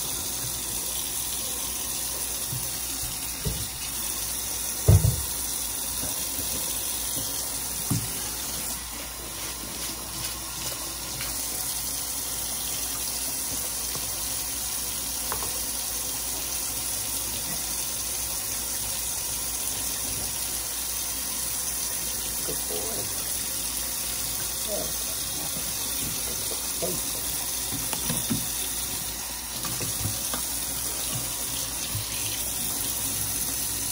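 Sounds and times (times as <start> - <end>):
faucet running into metal sink: 0.0 - 9.1, 10.6 - 33.9.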